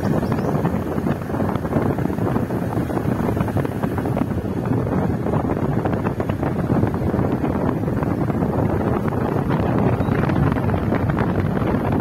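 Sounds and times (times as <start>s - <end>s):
car moving: 0.0s - 12.0s
wind buffeting microphone: 0.0s - 12.0s.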